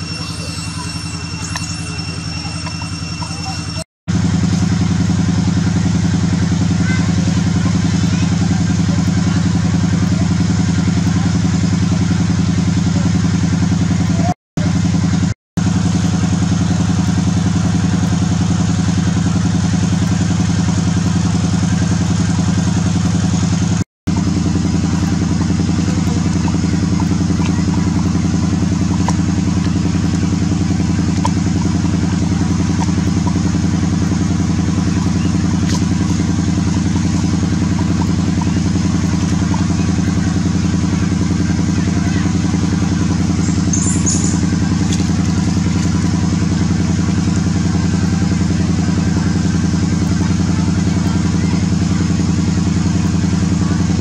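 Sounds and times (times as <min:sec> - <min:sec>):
steady engine drone: 0:00.0 - 0:54.0.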